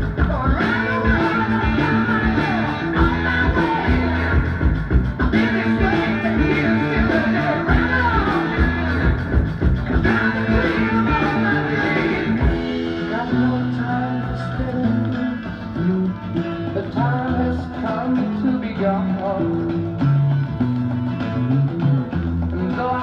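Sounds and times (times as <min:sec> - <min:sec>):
person singing: 0:00.0 - 0:20.1, 0:22.4 - 0:23.0
hard rock from a vinyl record: 0:00.0 - 0:23.0.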